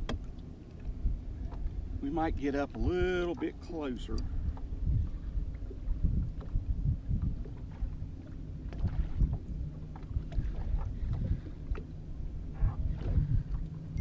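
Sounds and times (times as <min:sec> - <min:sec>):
waves slapping boat hull: 0:00.0 - 0:14.0
wind rumble on microphone: 0:00.0 - 0:14.0.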